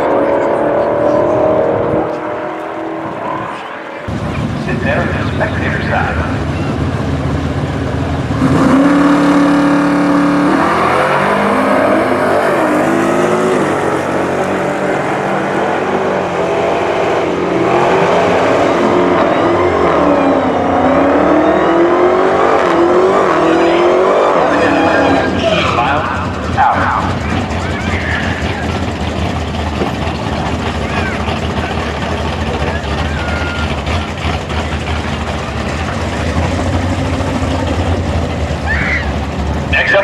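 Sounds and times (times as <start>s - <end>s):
car engines at full throttle: 0.0s - 40.0s.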